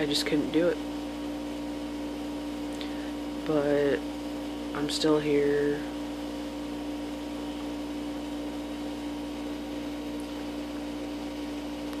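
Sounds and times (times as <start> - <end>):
constant hiss: 0.0 - 12.0
steady low hum: 0.0 - 12.0.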